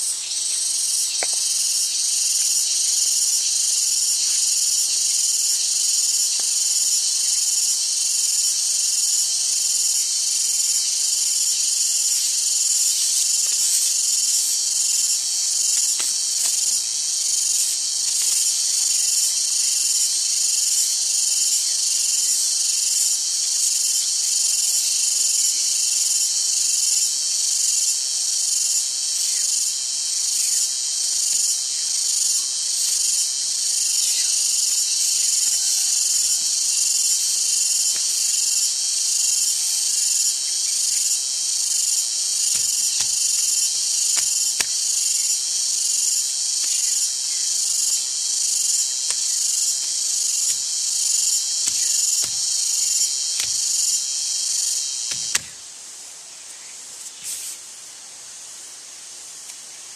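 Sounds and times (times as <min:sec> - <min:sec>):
pulsing insect chorus: 0:00.0 - 0:59.9.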